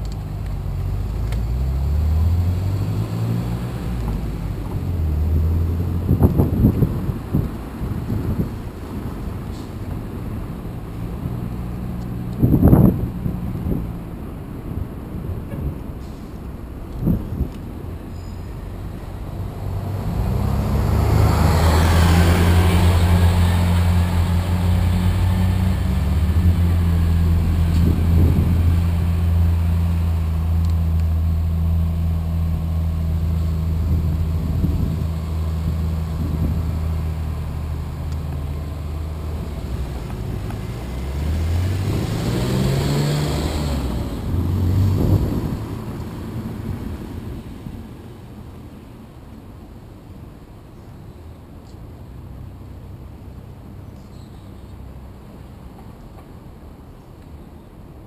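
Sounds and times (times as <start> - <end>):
car engine idling and revving: 0.0 - 49.8.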